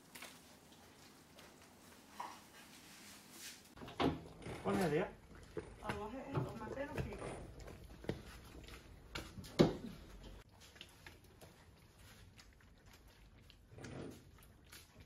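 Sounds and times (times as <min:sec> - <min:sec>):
hands kneading wet dough: 0:00.0 - 0:15.0.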